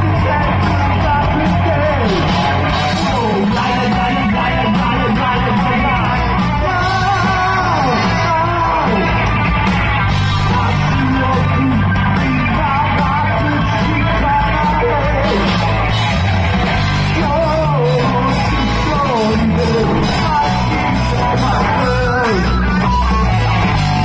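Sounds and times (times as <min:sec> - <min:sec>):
man singing and shouting: 0:00.0 - 0:09.4, 0:10.2 - 0:16.1, 0:16.8 - 0:24.0
rock band playing: 0:00.0 - 0:24.0.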